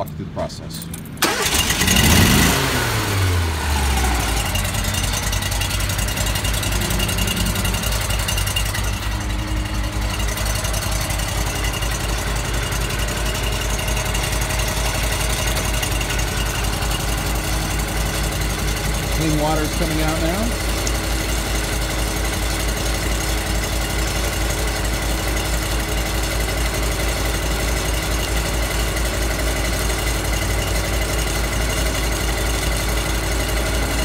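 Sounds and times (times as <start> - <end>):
engine starting and droning: 0.0 - 34.0
water pump pulsing: 3.5 - 34.0.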